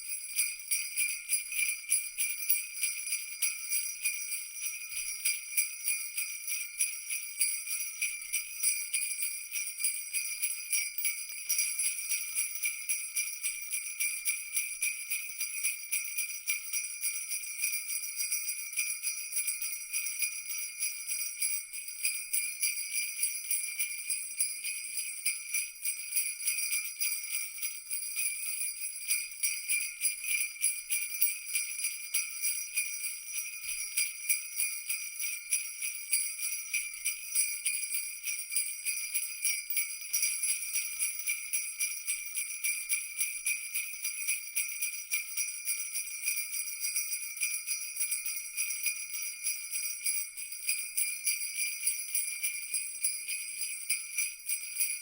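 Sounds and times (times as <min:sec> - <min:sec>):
jingle bells shaking: 0:00.0 - 0:55.0.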